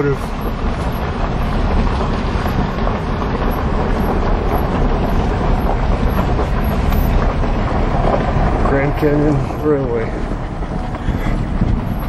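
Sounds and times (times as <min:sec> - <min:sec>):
wind and road noise inside car: 0:00.0 - 0:12.0.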